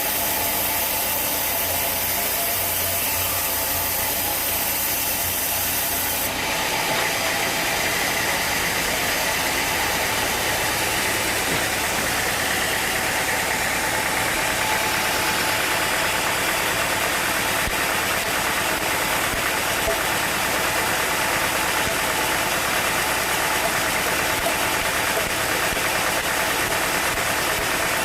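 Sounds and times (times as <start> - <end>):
sawmill machinery running: 0.0 - 28.0.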